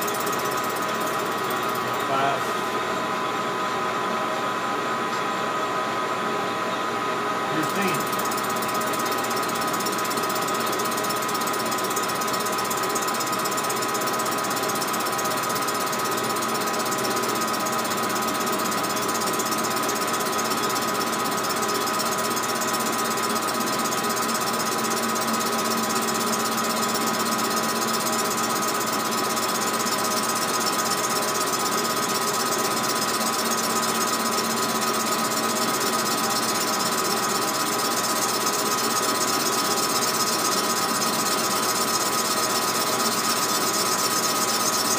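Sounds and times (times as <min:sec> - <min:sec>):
metal lathe running: 0:00.0 - 0:02.6, 0:07.5 - 0:44.9.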